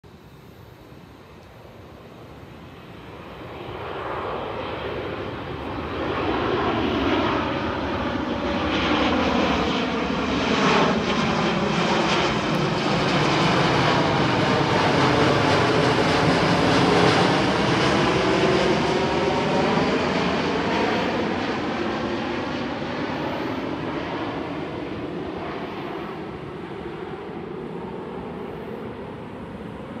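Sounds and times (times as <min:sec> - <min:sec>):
jet airliner flying overhead: 0:00.1 - 0:30.0.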